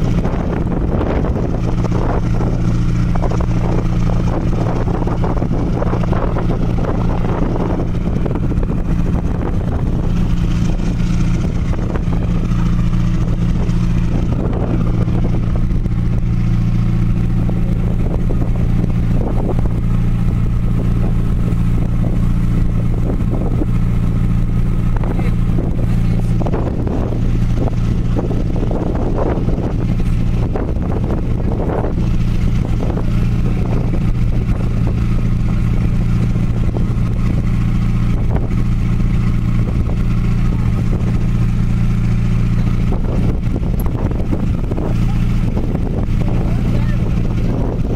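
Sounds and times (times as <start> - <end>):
ship engine droning: 0.0 - 47.9.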